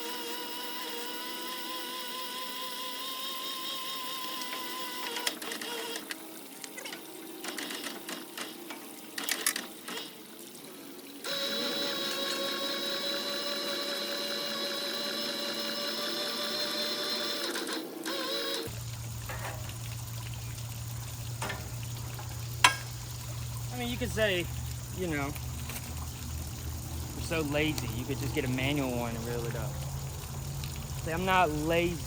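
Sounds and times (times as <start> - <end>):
hose reel motor whine: 0.0 - 30.3.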